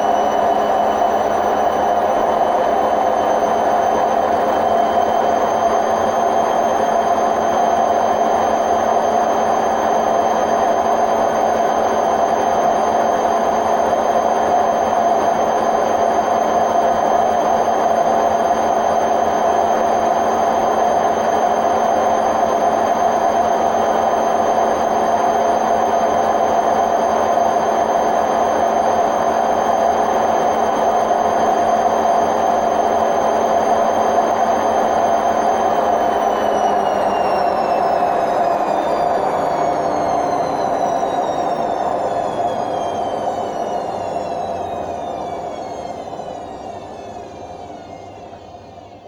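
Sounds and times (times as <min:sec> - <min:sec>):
washing machine spinning: 0:00.0 - 0:49.0.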